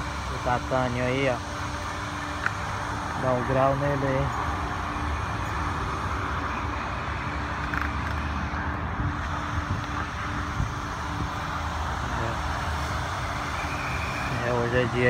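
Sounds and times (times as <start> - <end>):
low motor hum: 0.0 - 15.0
vacuum air rushing: 0.0 - 15.0.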